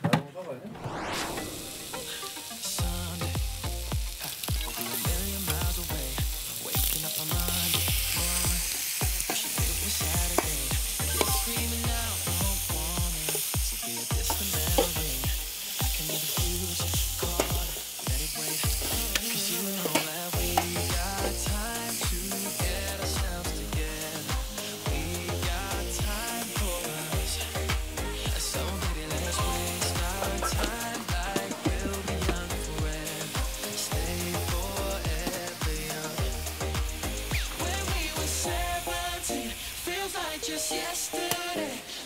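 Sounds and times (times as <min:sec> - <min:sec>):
food sizzling in a wok: 0:00.8 - 0:42.0
background music bass line: 0:01.1 - 0:19.3, 0:20.2 - 0:41.8.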